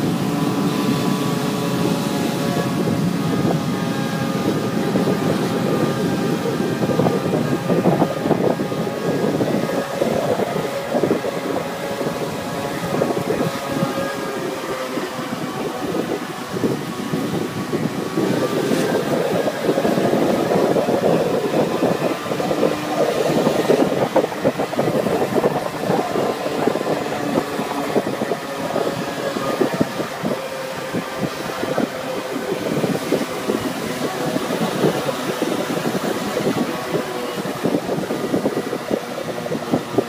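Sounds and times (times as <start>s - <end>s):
road noise: 0.0s - 40.0s
rushing wind: 0.0s - 40.0s.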